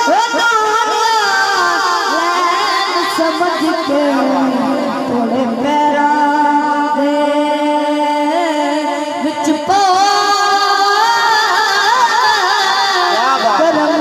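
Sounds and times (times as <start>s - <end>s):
boy singing into a microphone: 0.0s - 14.0s.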